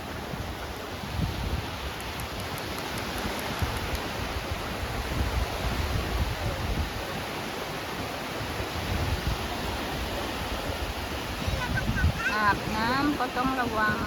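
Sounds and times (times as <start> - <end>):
waves breaking on beach: 0.0 - 14.0
wind rumbling on microphone: 0.0 - 14.0.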